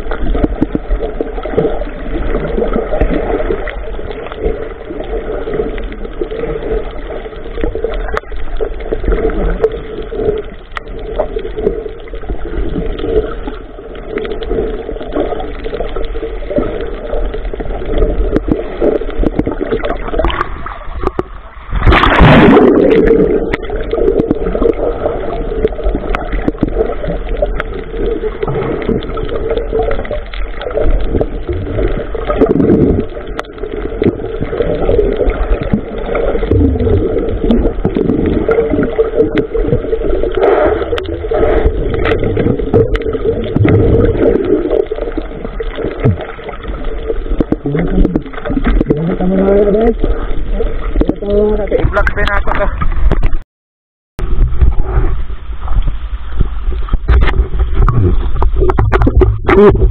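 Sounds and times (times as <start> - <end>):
water against hull: 0.0 - 53.4, 54.2 - 59.9.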